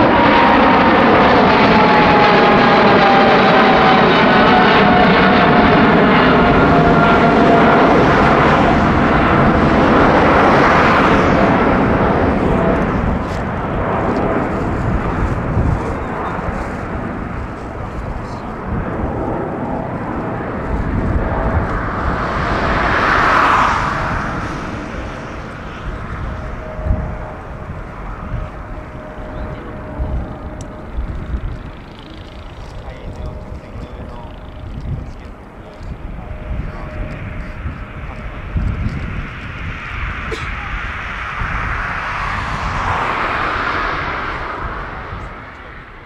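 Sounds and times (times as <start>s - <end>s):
jet airliner engines roaring: 0.0s - 46.0s.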